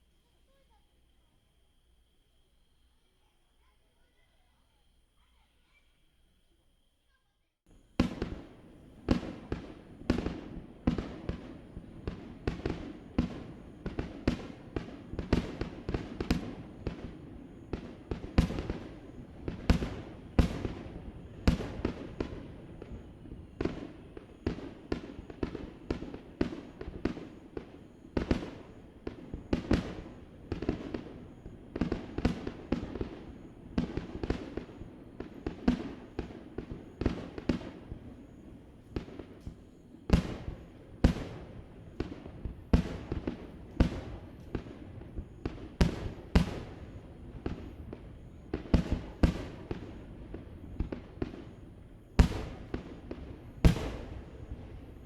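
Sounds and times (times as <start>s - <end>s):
fireworks bursting with echo: 7.7s - 55.0s.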